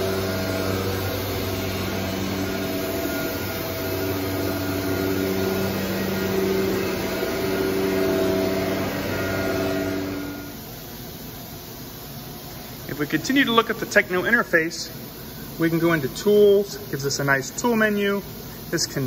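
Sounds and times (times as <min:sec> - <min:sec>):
vacuum pump humming: 0:00.0 - 0:19.0.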